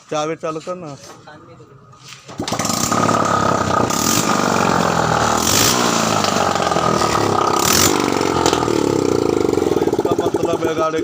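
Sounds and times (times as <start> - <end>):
engine revving without silencer: 1.8 - 10.8.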